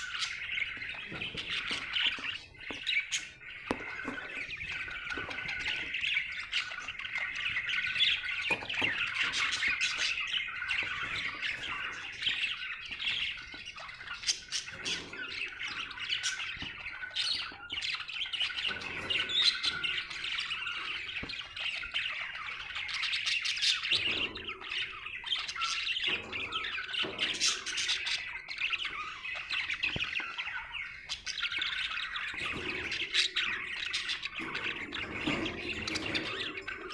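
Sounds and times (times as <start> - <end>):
budgerigar chirping and warbling: 0.0 - 36.9.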